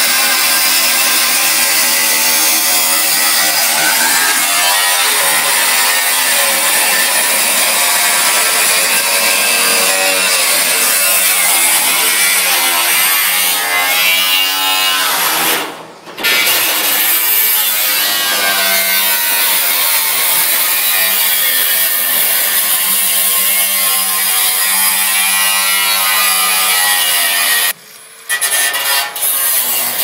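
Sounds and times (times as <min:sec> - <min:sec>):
angle grinder cutting metal: 0:00.0 - 0:30.0.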